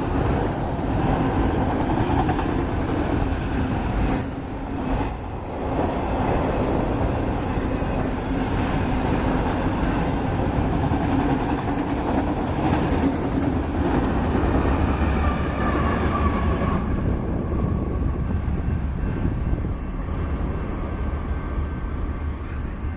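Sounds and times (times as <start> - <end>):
freight train wheels rumbling: 0.0 - 22.9.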